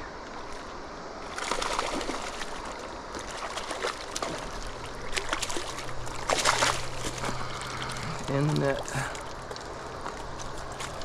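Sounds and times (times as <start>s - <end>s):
stream flowing: 0.0s - 11.0s
fish splashing at surface: 1.2s - 11.0s.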